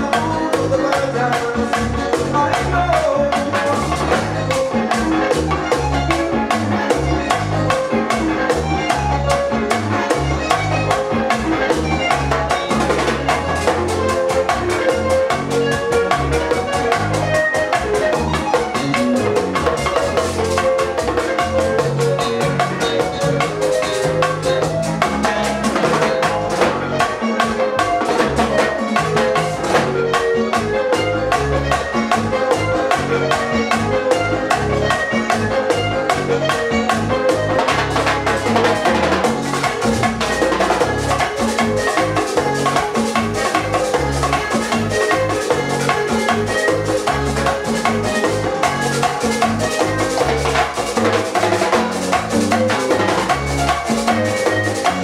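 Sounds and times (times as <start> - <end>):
acoustic-electric guitar: 0.0 - 55.0
keyboard: 0.0 - 55.0.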